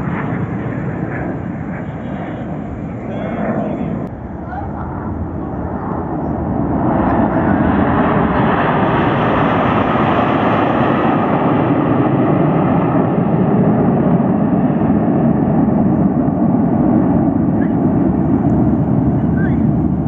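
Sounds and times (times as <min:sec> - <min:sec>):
jet aircraft flying overhead: 0:00.0 - 0:20.0.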